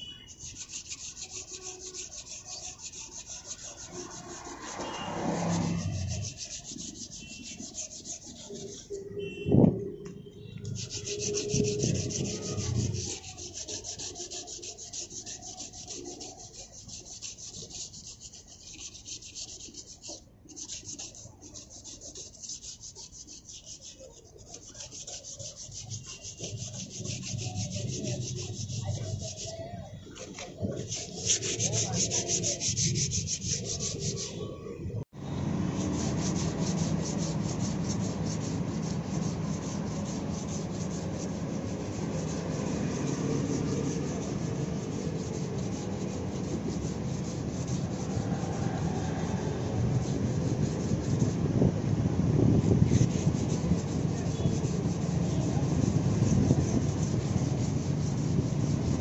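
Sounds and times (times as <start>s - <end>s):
sandpaper rubbing on plastic: 0.0s - 34.7s, 35.4s - 59.0s.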